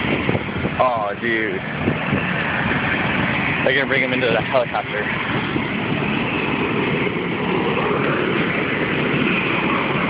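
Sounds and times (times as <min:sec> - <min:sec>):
helicopter engine and rotor: 0:00.0 - 0:10.0.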